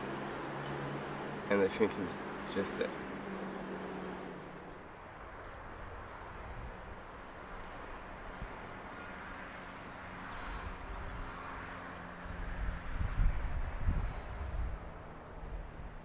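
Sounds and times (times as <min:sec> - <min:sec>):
even outdoor hiss: 0:00.0 - 0:16.0.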